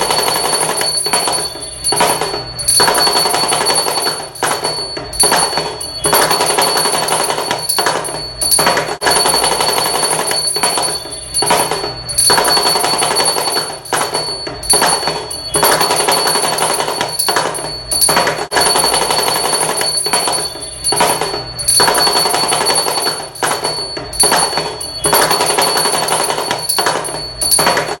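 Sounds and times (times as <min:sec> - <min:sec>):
high ringing tone: 0:00.0 - 0:28.0.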